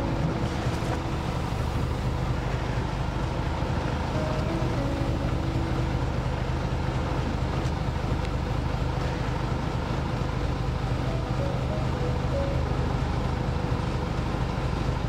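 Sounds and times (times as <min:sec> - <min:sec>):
boat engine droning: 0:00.0 - 0:15.0
water noise: 0:00.0 - 0:15.0
wind: 0:00.0 - 0:15.0.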